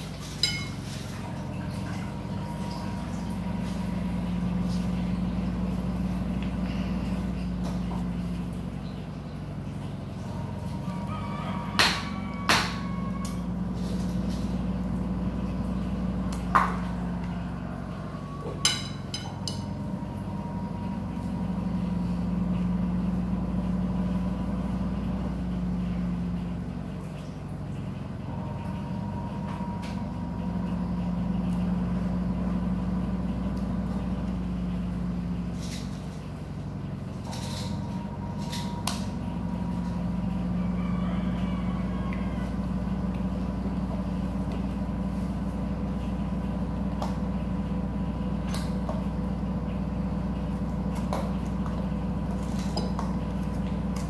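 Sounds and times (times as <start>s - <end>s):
motor humming: 0.0s - 54.0s.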